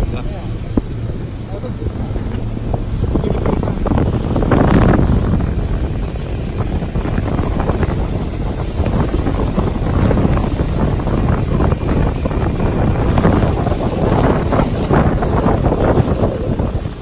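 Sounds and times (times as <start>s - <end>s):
water rushing past boat hull: 0.0s - 17.0s
wind buffeting microphone: 0.0s - 17.0s.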